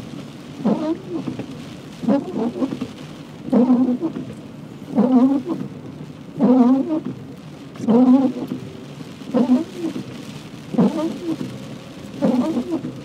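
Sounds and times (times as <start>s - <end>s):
heavy rain hissing: 0.0s - 13.0s
windscreen wiper squeaking: 0.0s - 13.0s.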